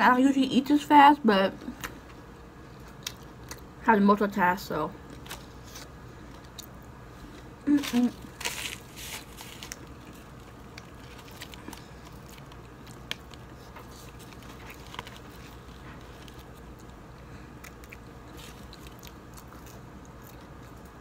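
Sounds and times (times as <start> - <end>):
chewing crispy food: 1.6 - 3.8, 5.0 - 21.0.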